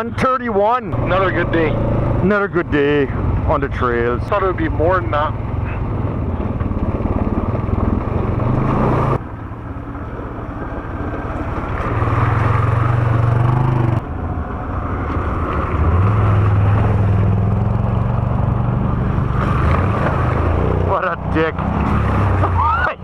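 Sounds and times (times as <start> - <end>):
atv engine running: 0.0 - 22.9.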